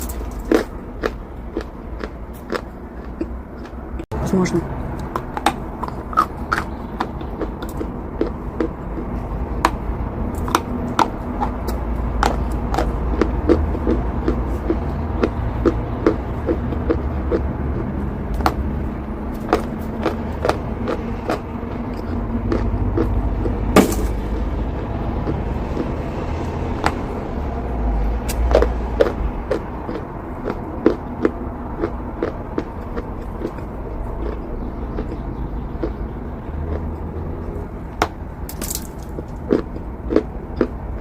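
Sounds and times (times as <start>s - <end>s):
chalk crunching being chewed: 0.0s - 3.8s, 4.9s - 23.7s, 24.8s - 27.0s, 28.3s - 37.7s
steady low rumble: 0.0s - 41.0s.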